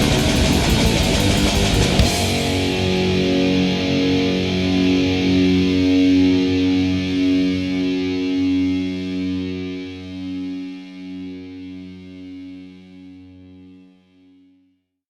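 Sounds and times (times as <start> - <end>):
distorted electric guitar chords: 0.0 - 13.8.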